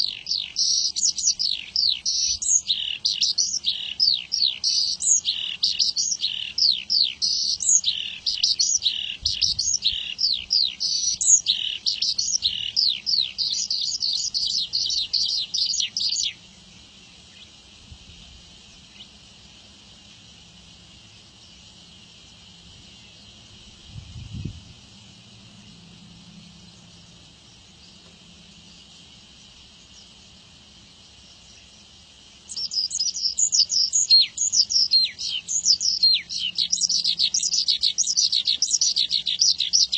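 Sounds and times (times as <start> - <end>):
faint high hiss: 0.0 - 39.9
lark singing chirps and trills: 0.0 - 39.9.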